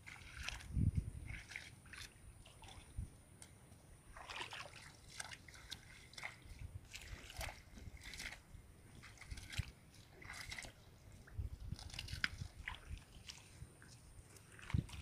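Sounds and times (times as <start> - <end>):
hooves squelching through water and mud: 0.0 - 15.0.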